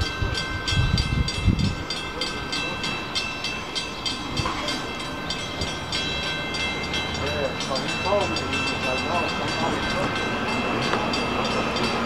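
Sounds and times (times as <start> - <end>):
crossing warning bell dinging: 0.0 - 12.0.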